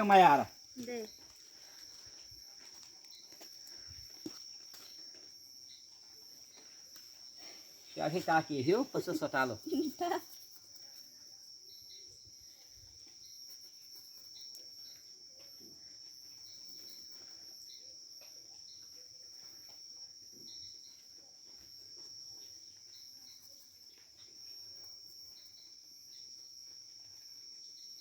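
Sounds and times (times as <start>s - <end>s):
crickets trilling: 0.0s - 28.0s
fast pulsing insect chirp: 0.0s - 28.0s.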